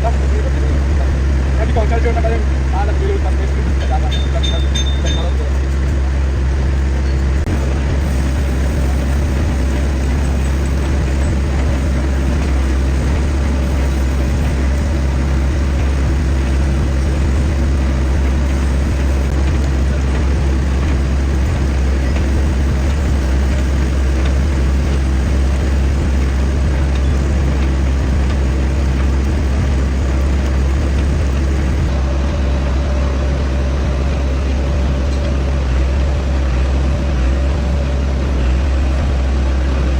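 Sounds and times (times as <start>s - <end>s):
lathe running with low drone: 0.0s - 39.9s.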